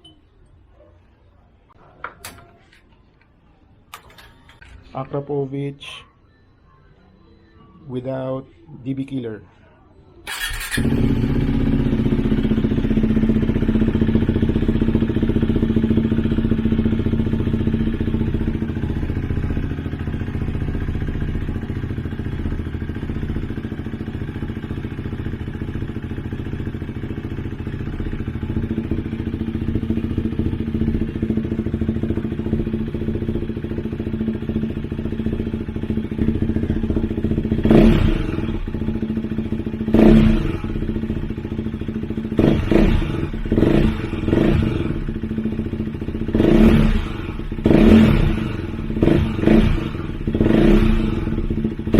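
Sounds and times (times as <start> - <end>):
motorcycle engine idling: 10.3 - 51.9
motorcycle throttle blips: 10.3 - 51.9.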